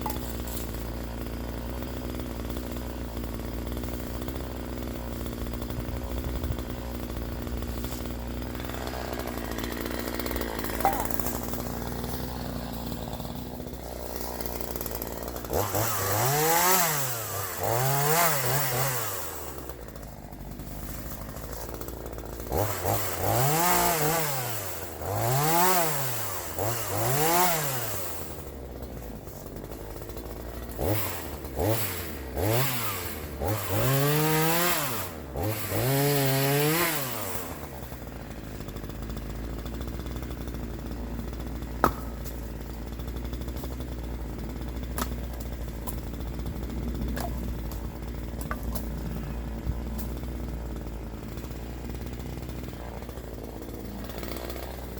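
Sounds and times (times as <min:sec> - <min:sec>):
chainsaw idling and revving: 0:00.0 - 0:54.9.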